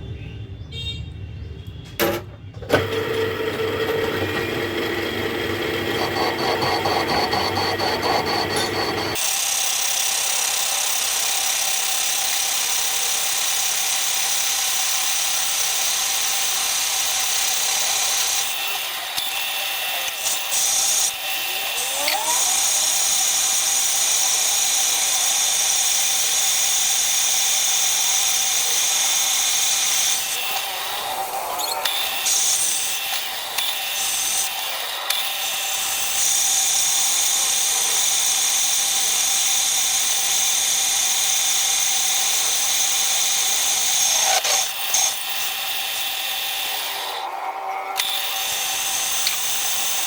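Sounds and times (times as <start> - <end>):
power tool cutting metal: 2.8 - 50.0.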